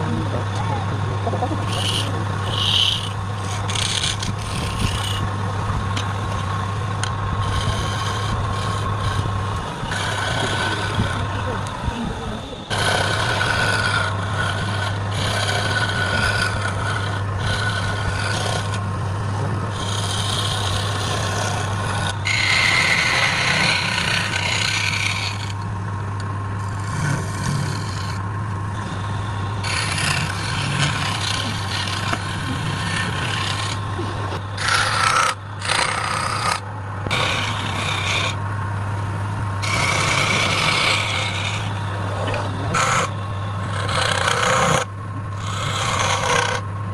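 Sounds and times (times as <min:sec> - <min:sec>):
tool rasping against spinning wood: 0:00.0 - 0:25.7, 0:26.5 - 0:38.6, 0:39.5 - 0:46.9
wood lathe motor hum: 0:00.0 - 0:46.9.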